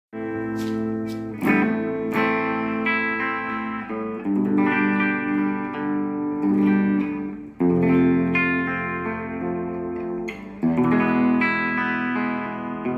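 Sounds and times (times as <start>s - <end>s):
electric guitar chords ringing: 0.1s - 12.9s.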